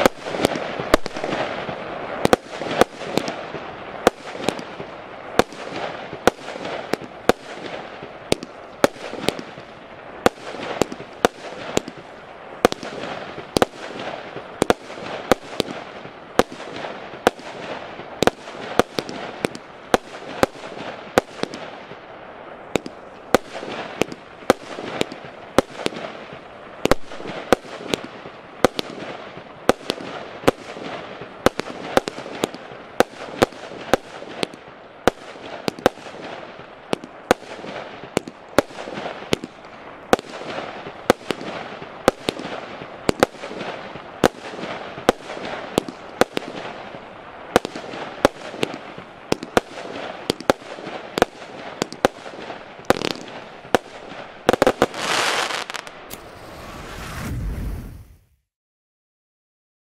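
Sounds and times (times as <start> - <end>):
firework bangs: 0.0 - 58.4.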